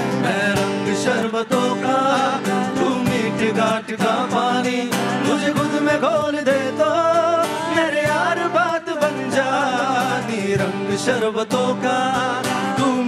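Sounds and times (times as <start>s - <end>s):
hand-slapped cajon beat: 0.0s - 13.0s
live music: 0.0s - 13.0s
man singing: 0.0s - 13.0s.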